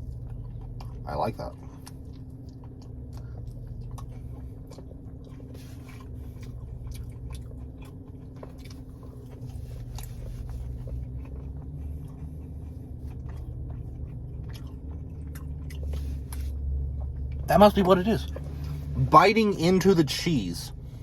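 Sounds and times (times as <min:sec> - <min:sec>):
person chewing: 0:00.0 - 0:19.1
steady low hum: 0:00.0 - 0:21.0.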